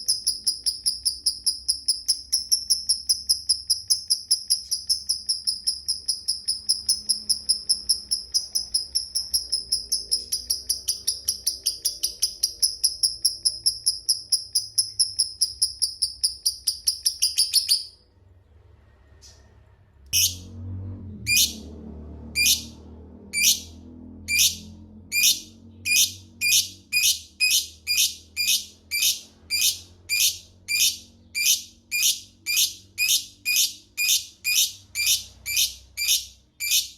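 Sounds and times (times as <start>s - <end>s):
lovebird chattering shrill chirps: 0.0s - 18.0s, 22.4s - 22.7s, 23.4s - 36.9s.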